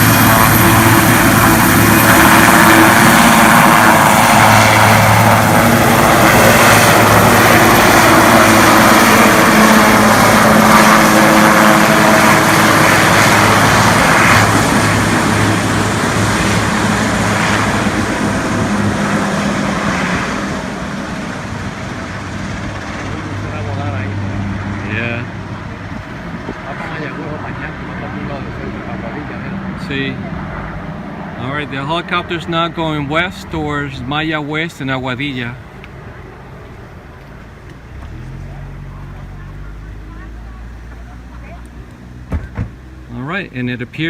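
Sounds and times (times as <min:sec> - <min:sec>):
helicopter flying: 0:00.0 - 0:44.0.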